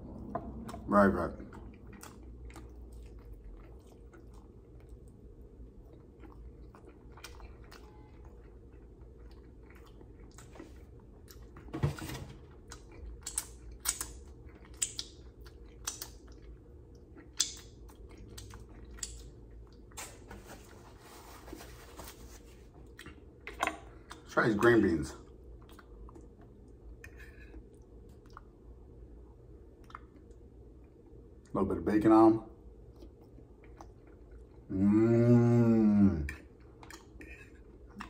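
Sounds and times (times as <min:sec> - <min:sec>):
man chewing with wet smacks: 0:00.0 - 0:11.7, 0:12.5 - 0:20.0, 0:22.6 - 0:31.6, 0:32.6 - 0:34.7, 0:36.3 - 0:38.0.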